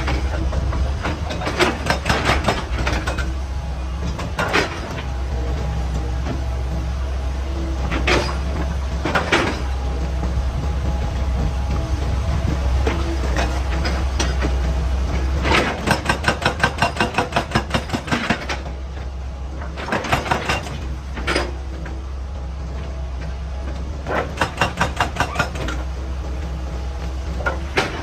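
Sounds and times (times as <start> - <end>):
excavator engine droning: 0.0 - 28.0.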